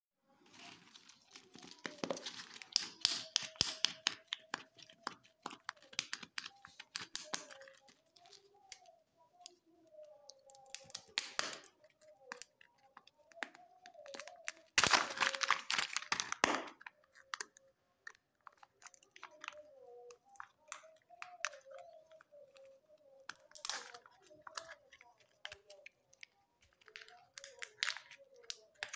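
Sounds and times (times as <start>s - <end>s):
wrapper crinkling: 0.4s - 8.9s, 14.0s - 28.9s.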